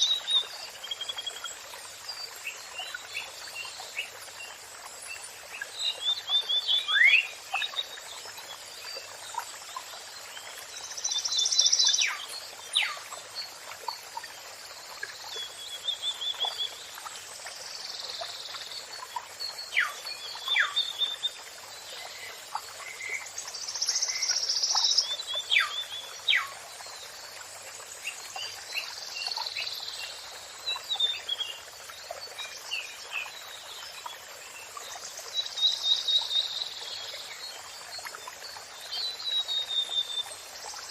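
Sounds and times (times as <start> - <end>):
songbirds singing and trilling: 0.0 - 40.9.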